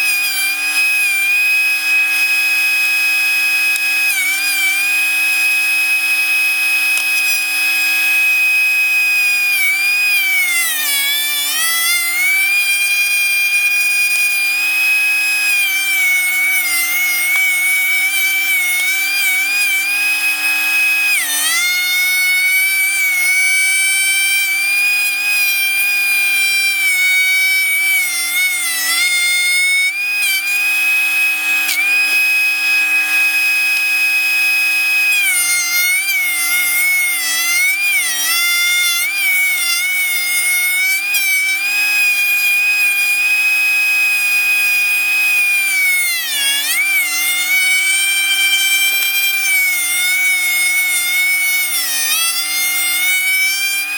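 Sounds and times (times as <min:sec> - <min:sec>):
planer motor whining: 0:00.0 - 0:53.9.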